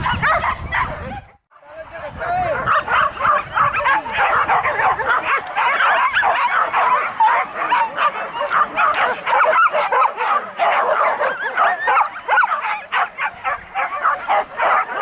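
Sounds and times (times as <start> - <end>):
dogs yelping: 0.0 - 1.4, 2.4 - 15.0.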